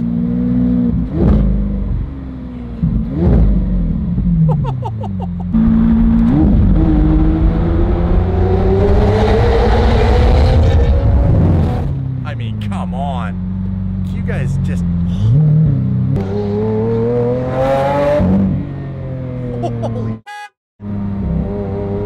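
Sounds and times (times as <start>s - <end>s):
loud sports car engine: 0.0s - 19.9s, 20.8s - 22.0s.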